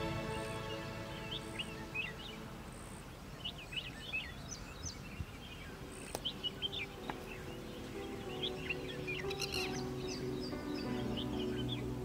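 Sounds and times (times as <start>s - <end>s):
birds chirping: 0.0s - 12.0s
outdoor background hiss: 0.0s - 12.0s.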